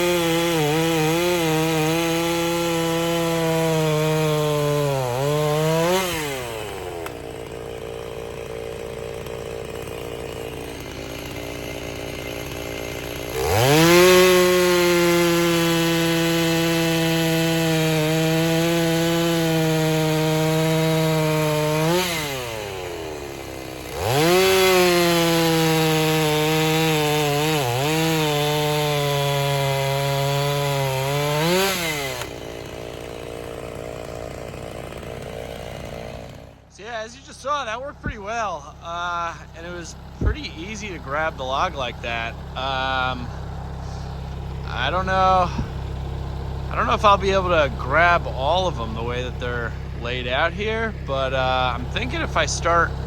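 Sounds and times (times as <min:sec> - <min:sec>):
tractor diesel engine revving: 0:00.0 - 0:53.0.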